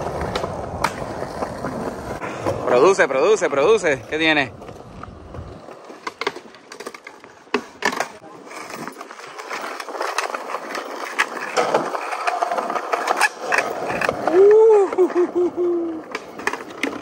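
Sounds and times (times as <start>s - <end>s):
skateboard wheels rolling on tiles: 0.0s - 17.0s.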